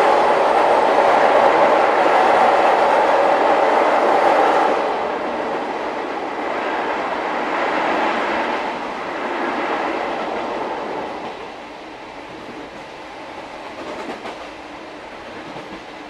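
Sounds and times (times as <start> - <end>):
train coach roaring through tunnel: 0.0 - 16.0.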